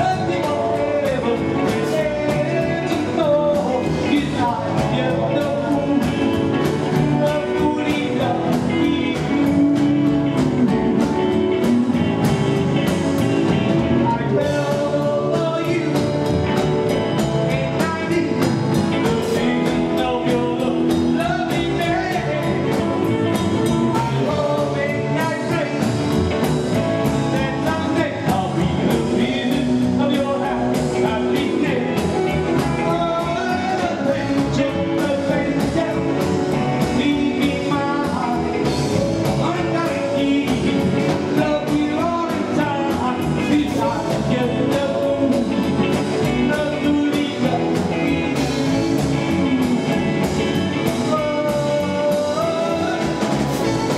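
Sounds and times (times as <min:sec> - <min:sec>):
man singing: 0:00.0 - 0:53.9
rock and roll band playing: 0:00.0 - 0:53.9.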